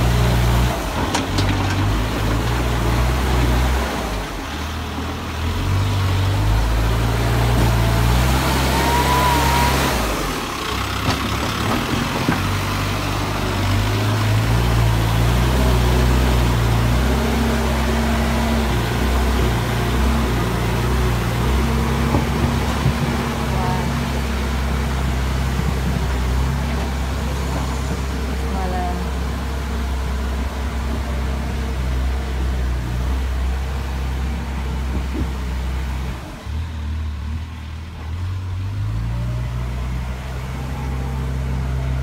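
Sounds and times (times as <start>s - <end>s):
diesel engine running under load: 0.0s - 42.0s.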